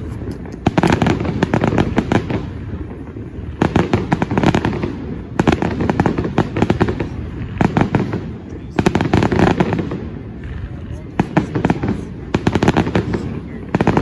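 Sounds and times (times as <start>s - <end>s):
fireworks bursting with bangs: 0.0s - 14.0s
fireworks crackling: 0.0s - 14.0s.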